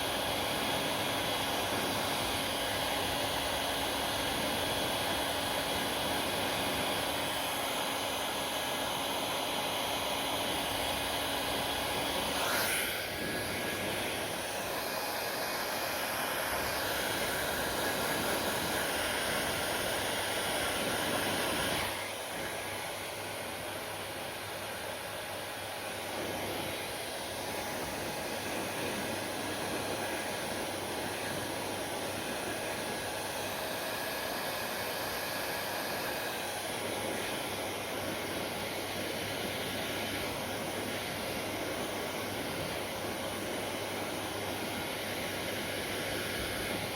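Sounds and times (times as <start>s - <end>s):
hair dryer blowing: 0.0s - 46.9s.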